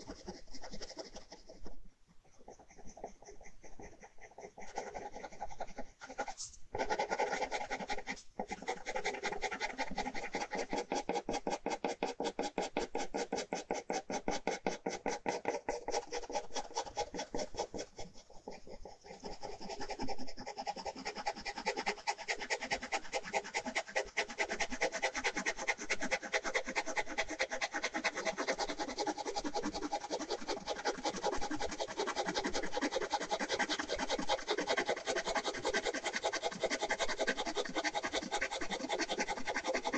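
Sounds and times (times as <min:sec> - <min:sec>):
pen scratching on paper: 0:00.0 - 0:39.9.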